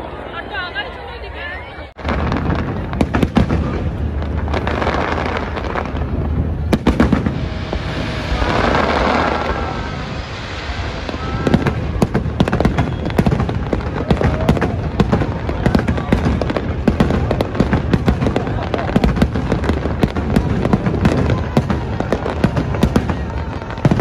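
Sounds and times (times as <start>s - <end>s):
fireworks bangs and crackling: 1.9s - 24.0s.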